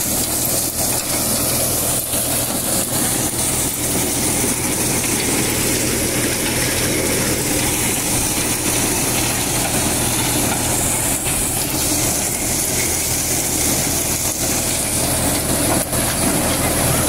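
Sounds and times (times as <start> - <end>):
thresher drum shredding corn: 0.0 - 17.0
tractor engine under load: 0.0 - 17.0.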